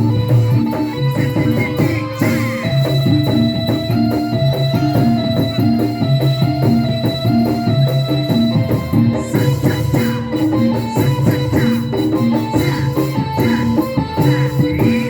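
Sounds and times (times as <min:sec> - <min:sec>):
drum and percussion rhythm: 0:00.0 - 0:15.0
electronic keyboard organ notes: 0:00.0 - 0:15.0
repeating bass line: 0:00.0 - 0:15.0.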